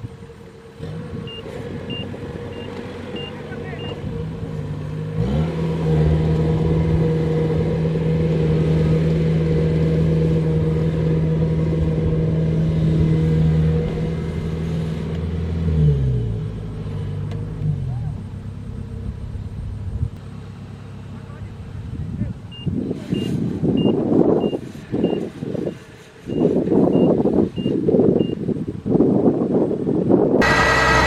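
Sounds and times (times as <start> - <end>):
diesel engine revving: 0.0 - 29.1, 29.9 - 31.0.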